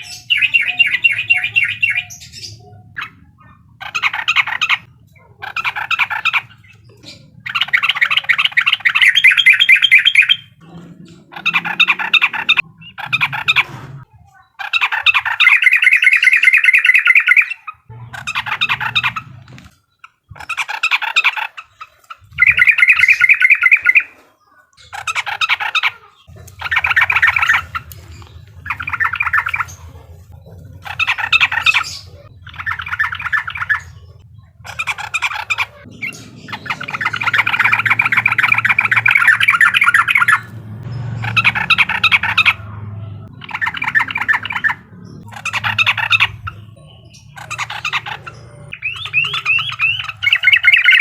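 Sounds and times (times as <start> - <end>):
bird chattering song: 0.0 - 51.0.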